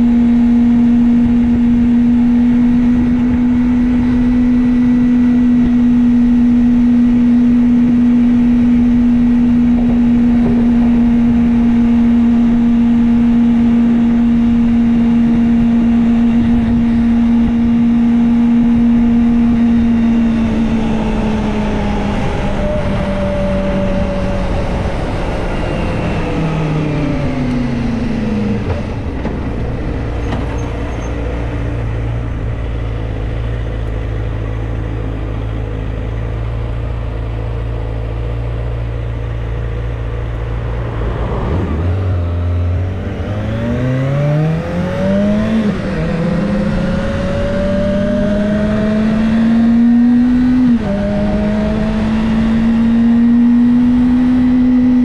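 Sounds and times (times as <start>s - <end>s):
motorcycle engine revving and idling: 0.0s - 55.0s.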